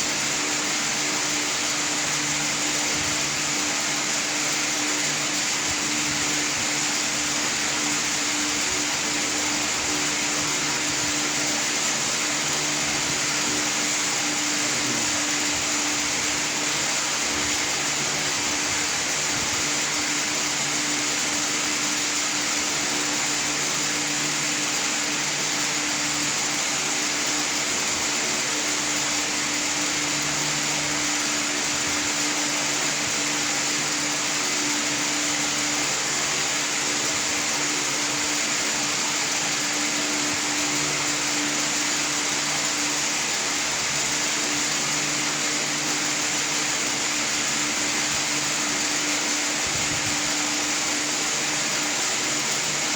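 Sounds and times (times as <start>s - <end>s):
strong hiss: 0.0s - 52.9s.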